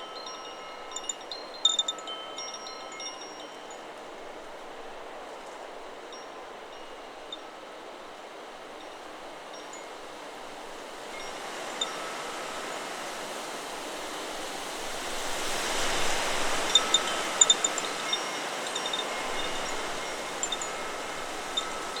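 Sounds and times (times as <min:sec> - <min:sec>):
metal wind chimes ringing: 0:00.0 - 0:07.6, 0:08.7 - 0:13.2, 0:14.8 - 0:22.0
wind through trees: 0:00.0 - 0:22.0.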